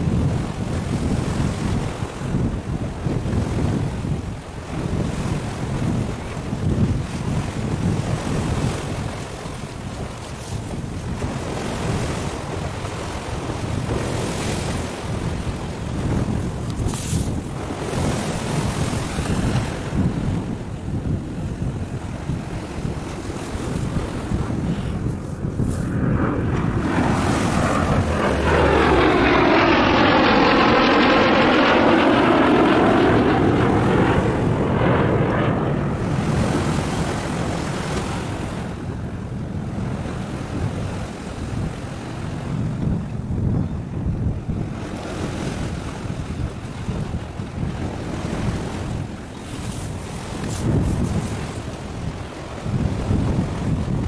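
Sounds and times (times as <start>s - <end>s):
aircraft flying over: 0.0s - 54.0s
wind buffeting microphone: 0.0s - 54.0s.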